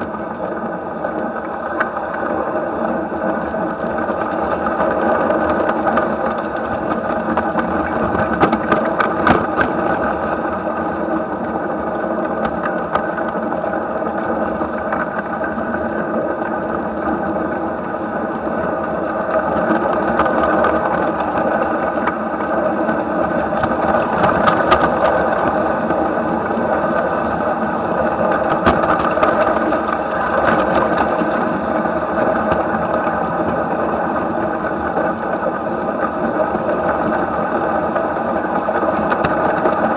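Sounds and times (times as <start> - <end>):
model steam locomotive running: 0.0 - 39.9.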